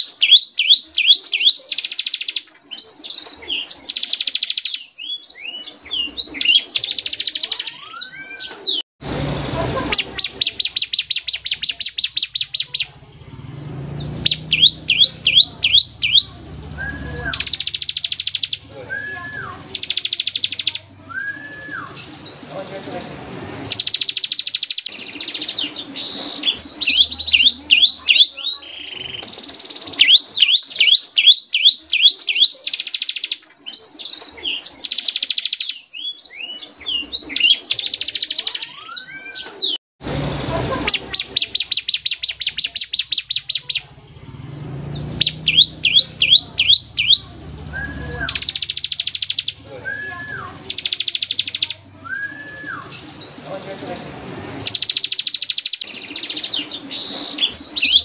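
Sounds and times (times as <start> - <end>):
bird singing rattling trills: 0.0 - 22.8, 23.6 - 39.8, 40.6 - 58.0.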